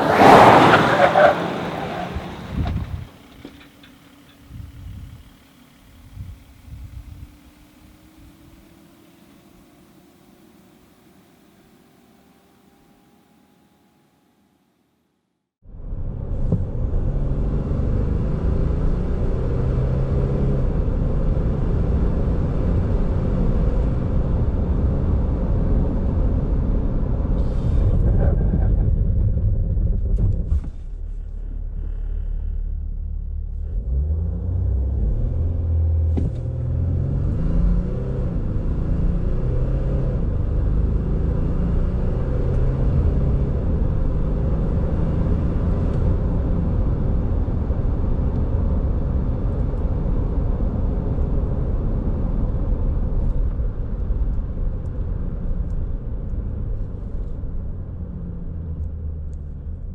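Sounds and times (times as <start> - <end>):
diesel engine accelerating: 0.0 - 14.3, 15.7 - 59.9.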